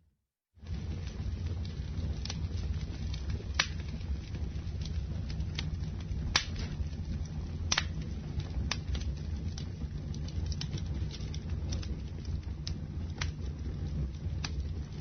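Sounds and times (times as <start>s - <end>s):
campfire crackling and popping: 0.6s - 15.0s.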